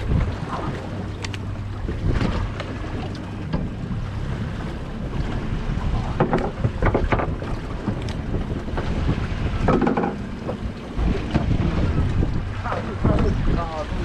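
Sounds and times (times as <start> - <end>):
boat engine low rumble: 0.0 - 14.0
wind buffeting microphone: 0.0 - 14.0.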